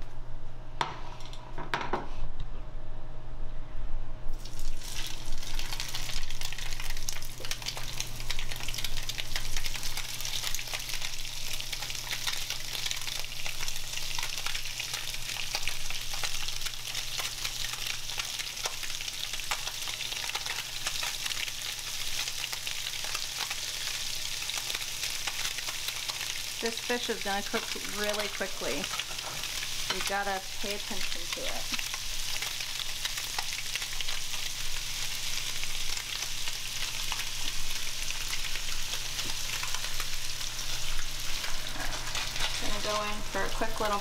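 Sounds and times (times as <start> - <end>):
fish sizzling in a frying pan: 4.4 - 44.0.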